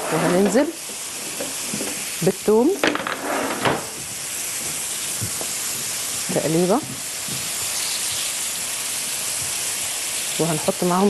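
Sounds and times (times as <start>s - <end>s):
food sizzling in pans: 0.0s - 11.0s.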